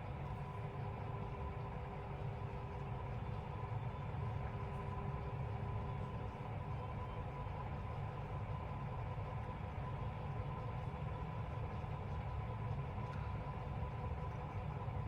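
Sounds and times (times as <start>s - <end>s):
faint steady tone: 0.0s - 15.0s
low mechanical hum: 0.0s - 15.0s.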